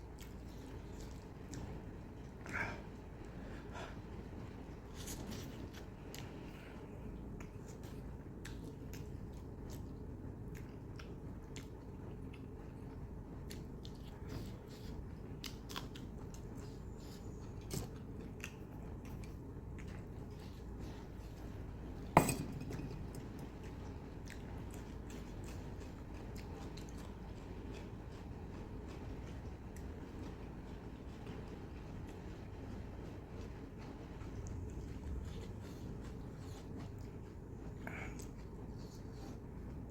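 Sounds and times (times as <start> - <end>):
steady low hum: 0.0 - 39.9
person chewing: 0.1 - 4.0, 4.6 - 32.2, 33.4 - 39.9.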